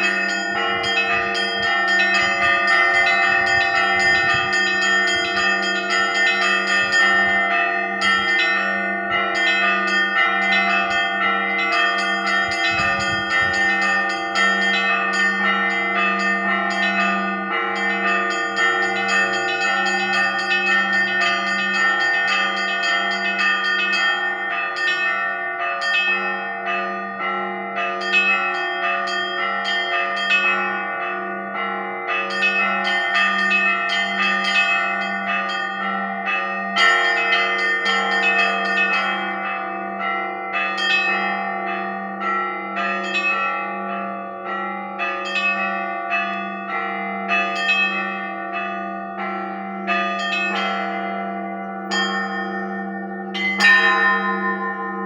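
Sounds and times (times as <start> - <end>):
lower church bells ringing: 0.0 - 55.0
small high church bells striking: 0.0 - 55.0.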